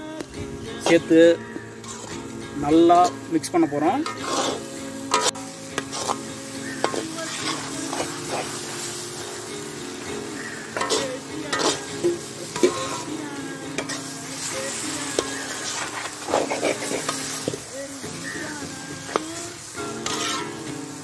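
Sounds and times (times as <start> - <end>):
meat sizzling in a pan: 0.0 - 21.0
metal ladle scraping a pan: 1.4 - 21.0.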